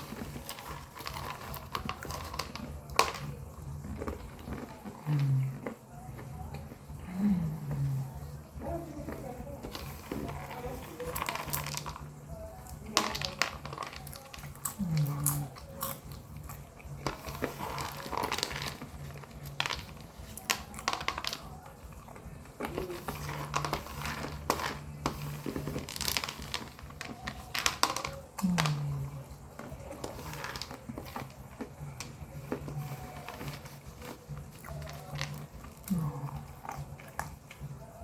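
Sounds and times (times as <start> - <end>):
faint low hum: 0.0 - 38.0
popcorn crunching while chewed: 0.0 - 38.0.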